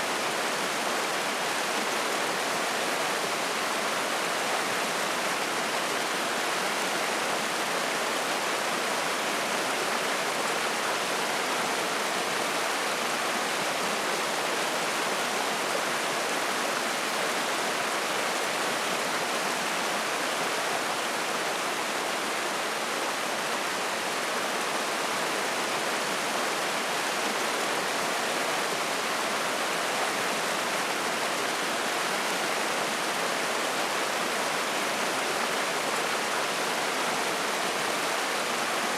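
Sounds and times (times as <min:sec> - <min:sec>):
stream rushing and splashing: 0:00.0 - 0:38.9.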